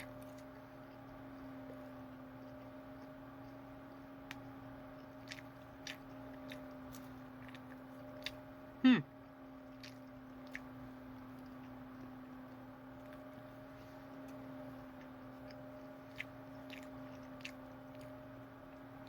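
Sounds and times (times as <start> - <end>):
person chewing: 0.0 - 19.0
steady low hum: 0.0 - 19.0.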